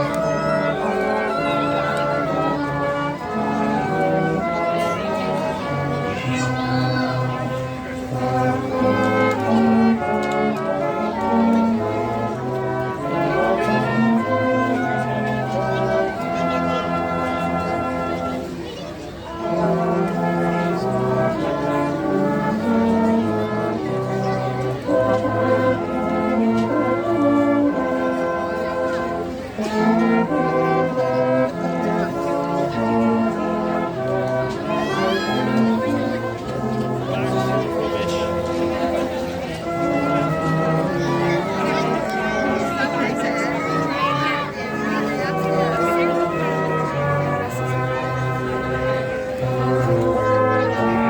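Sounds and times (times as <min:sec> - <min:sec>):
brass band playing: 0:00.0 - 0:51.0
melody of held notes: 0:00.0 - 0:51.0.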